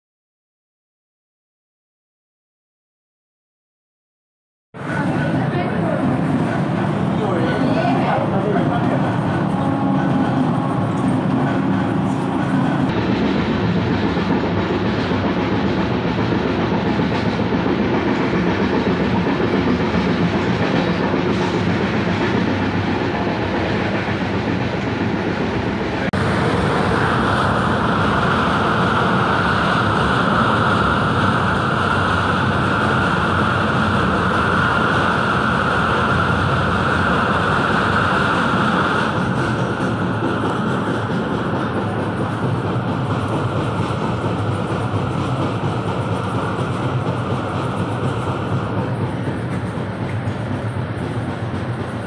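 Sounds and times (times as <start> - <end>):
train wheels rumbling on rails: 4.8 - 52.0.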